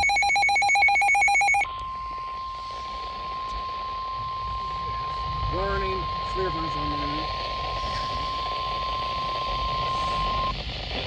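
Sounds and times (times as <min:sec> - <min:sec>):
steady pure warning tone: 0:00.0 - 0:11.0.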